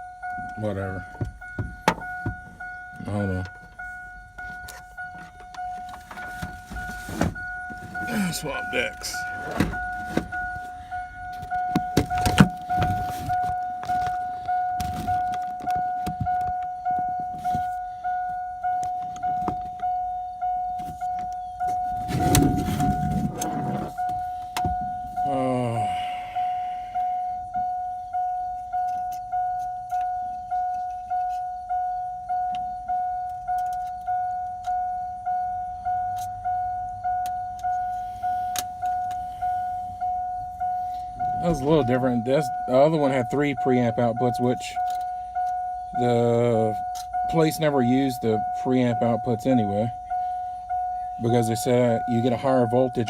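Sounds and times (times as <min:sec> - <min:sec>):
truck warning chime dinging: 0:00.0 - 0:53.0.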